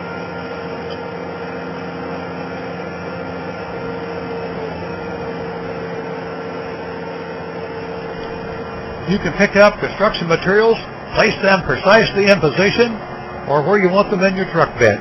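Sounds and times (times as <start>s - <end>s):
loader engine running: 0.0s - 15.0s
steady whine: 0.0s - 15.0s.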